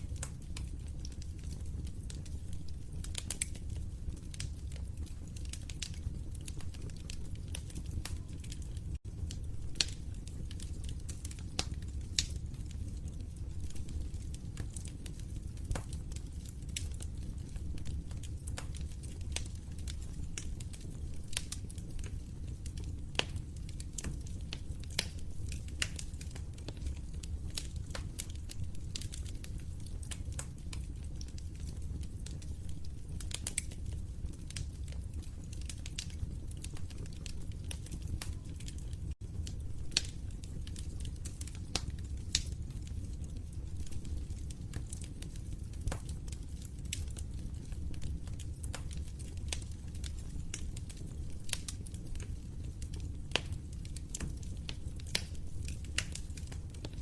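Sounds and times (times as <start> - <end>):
fire pops and snaps: 0.0 - 57.0
low rumble of flames: 0.0 - 57.0.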